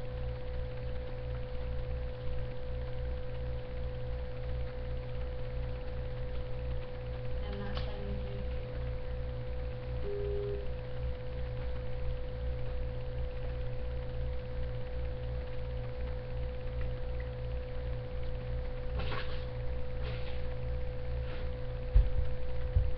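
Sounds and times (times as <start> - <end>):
electrical hum with pulsing throb: 0.0 - 22.9.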